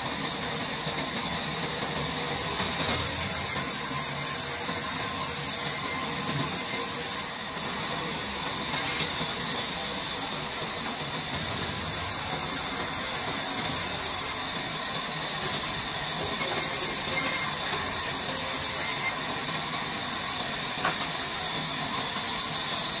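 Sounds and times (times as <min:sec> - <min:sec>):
band saw cutting wood: 0:02.3 - 0:23.0.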